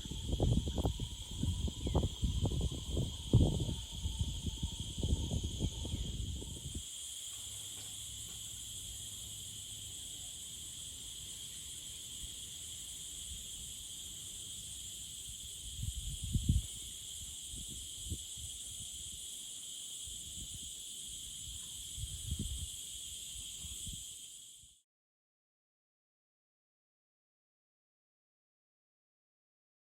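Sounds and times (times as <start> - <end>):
high-pitched insect chorus: 0.0 - 24.8.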